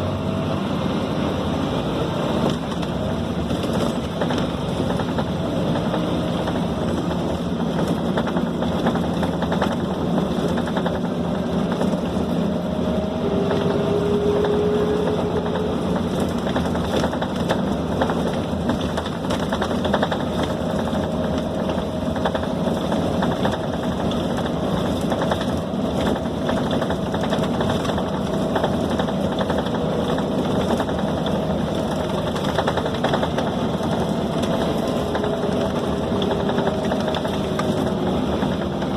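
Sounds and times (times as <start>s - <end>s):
bus engine drone: 0.0s - 38.9s
bodywork rattling: 2.5s - 12.4s, 15.4s - 38.9s.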